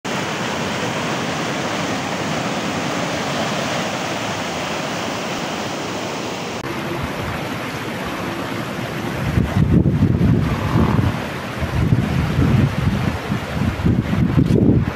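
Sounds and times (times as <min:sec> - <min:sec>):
floodwater rushing: 0:00.0 - 0:14.9.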